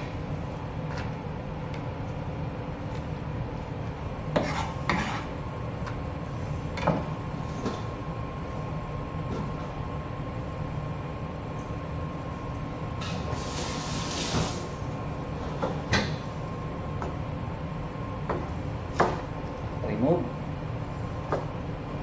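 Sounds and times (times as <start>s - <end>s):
ventilation rumble and hum: 0.0s - 22.0s.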